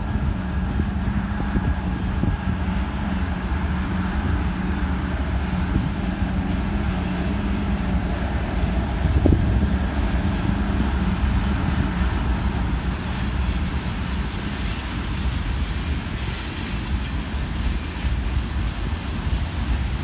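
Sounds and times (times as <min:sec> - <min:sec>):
distant diesel locomotive drone: 0:00.0 - 0:20.0
wind gust on microphone: 0:00.0 - 0:20.0.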